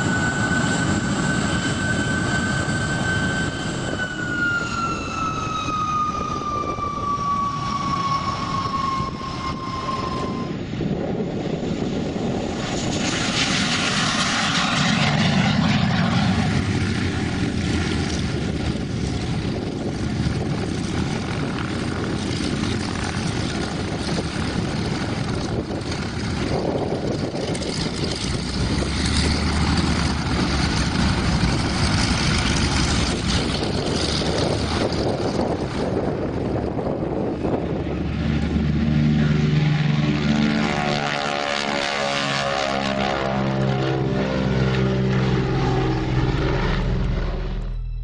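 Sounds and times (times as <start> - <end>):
aircraft propeller engines droning: 0.0 - 48.0.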